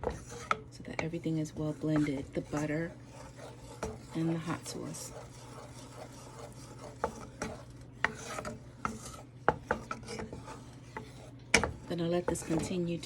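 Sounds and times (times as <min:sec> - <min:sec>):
utensil scraping a pot: 0:00.0 - 0:13.0.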